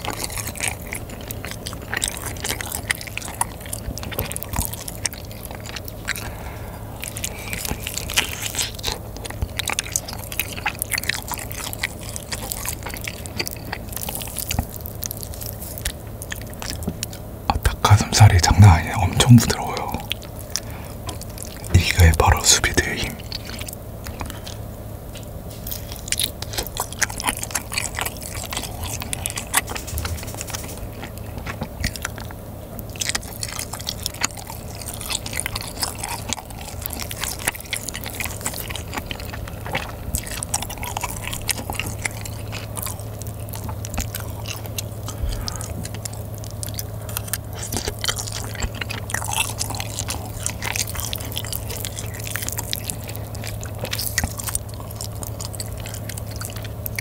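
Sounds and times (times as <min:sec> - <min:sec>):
steady low hum: 0:00.0 - 0:57.0
wet chewing and mouth clicks: 0:00.0 - 0:57.0.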